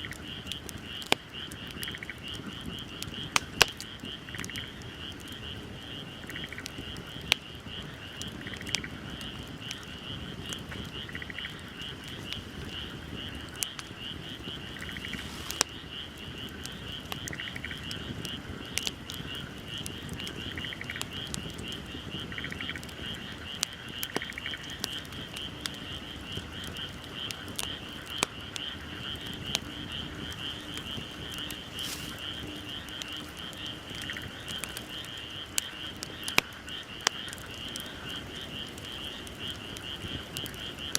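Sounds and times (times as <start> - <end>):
night frogs trilling: 0.0 - 40.9
wood fire crackling and popping: 0.0 - 40.9.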